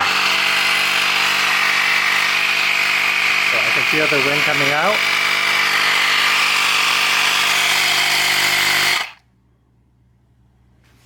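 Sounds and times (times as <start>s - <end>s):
tire inflator compressor buzzing: 0.0s - 9.2s.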